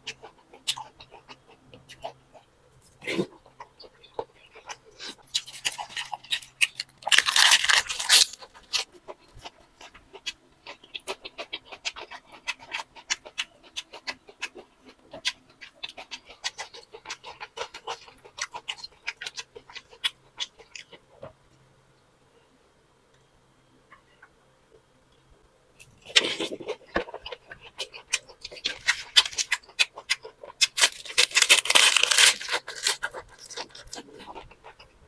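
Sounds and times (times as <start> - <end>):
person chewing crunchy food: 0.0 - 21.1, 25.8 - 35.0.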